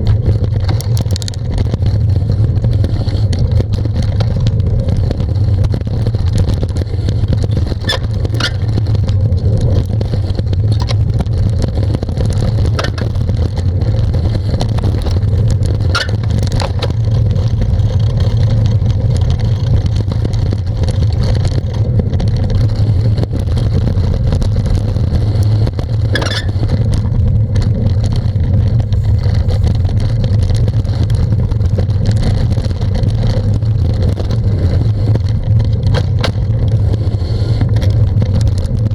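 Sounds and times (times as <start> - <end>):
bicycle tyre noise: 0.0 - 38.9
short clicks and rattles: 0.0 - 38.9
wind rumble: 0.0 - 38.9.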